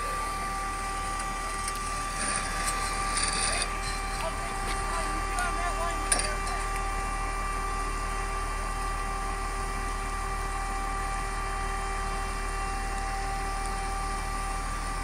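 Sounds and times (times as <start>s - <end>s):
fire engine pump rumbling: 0.0s - 15.0s.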